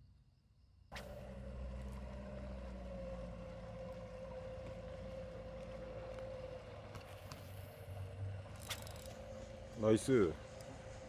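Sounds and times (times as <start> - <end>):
engine droning: 0.9 - 11.0.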